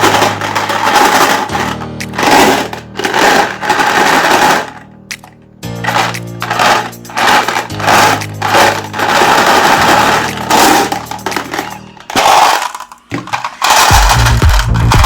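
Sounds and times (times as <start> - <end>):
marbles cracking in grinder: 0.0 - 15.0.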